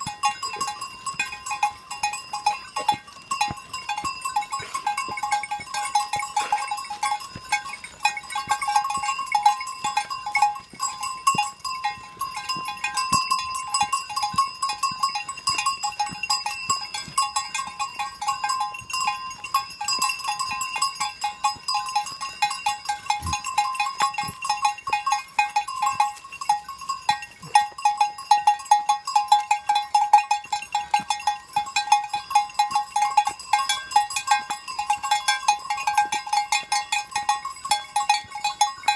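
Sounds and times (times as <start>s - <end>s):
goat bells clanking: 0.0s - 38.9s.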